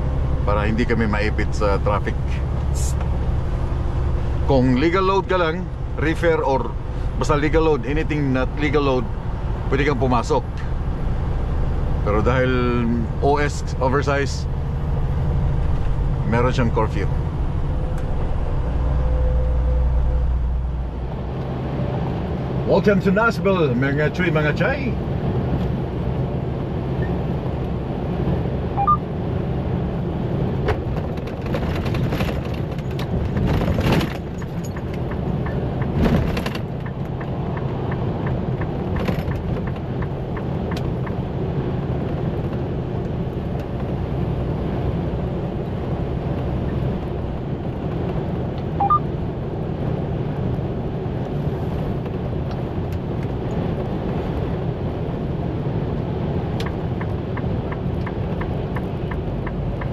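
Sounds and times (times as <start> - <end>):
truck engine and road drone: 0.0 - 59.9.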